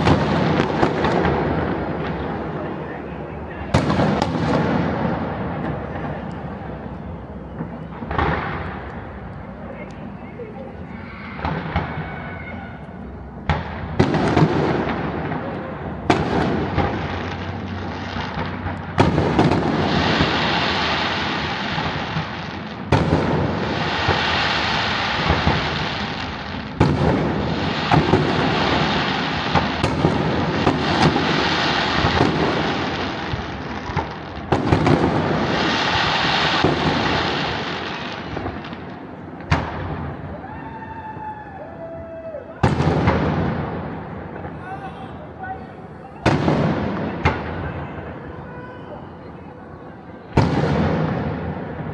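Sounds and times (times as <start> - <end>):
firework bangs: 0.0 - 51.9
firework crackling: 0.0 - 51.9.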